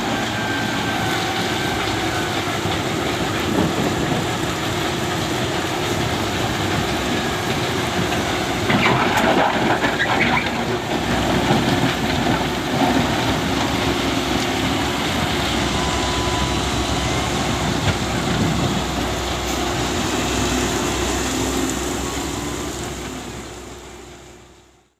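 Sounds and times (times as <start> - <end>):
heavy machinery diesel engines: 0.0 - 24.9.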